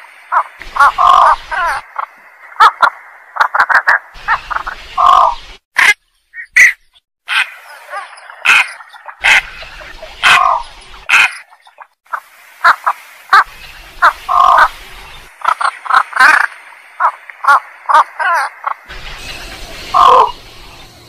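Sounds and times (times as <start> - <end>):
bird calls: 0.3 - 21.0.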